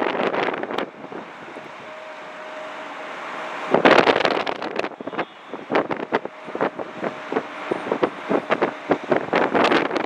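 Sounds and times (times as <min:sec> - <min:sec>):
wind buffeting microphone: 0:00.0 - 0:02.0, 0:03.6 - 0:10.0
jet engines whining: 0:00.0 - 0:10.0.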